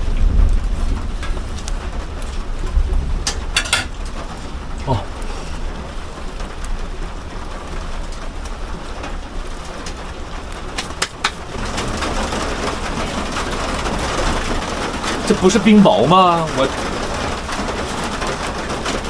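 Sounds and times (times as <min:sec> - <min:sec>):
rain and hail drumming on metal: 0:00.0 - 0:19.0
hailstone ticks: 0:00.1 - 0:19.0.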